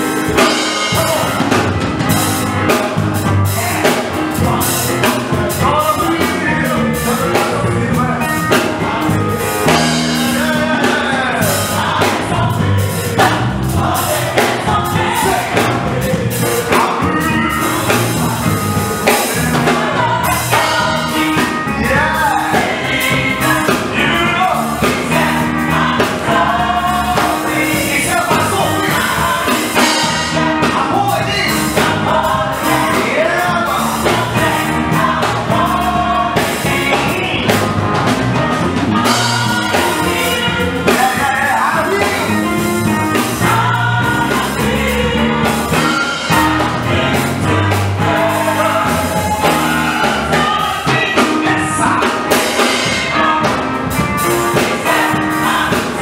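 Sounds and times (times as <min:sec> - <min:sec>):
gospel choir singing: 0:00.0 - 0:56.0
live band with drums: 0:00.0 - 0:56.0.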